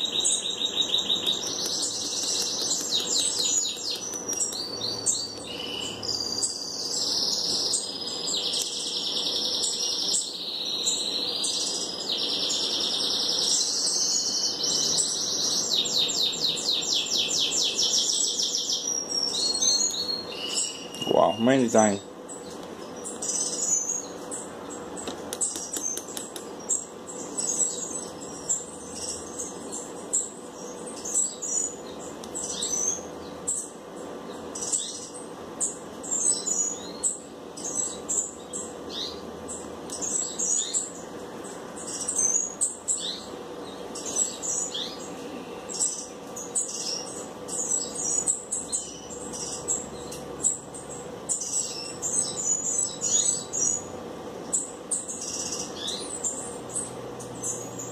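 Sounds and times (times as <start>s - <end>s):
small birds chirping: 0.0s - 57.9s
steady low hum: 0.0s - 57.9s.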